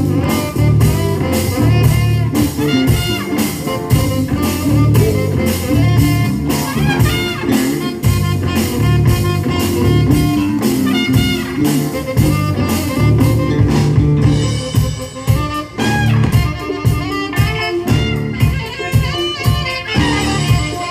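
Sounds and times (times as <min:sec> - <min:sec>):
drum kit steady beat: 0:00.0 - 0:20.9
electric bass guitar: 0:00.0 - 0:20.9
horns: 0:00.0 - 0:20.9.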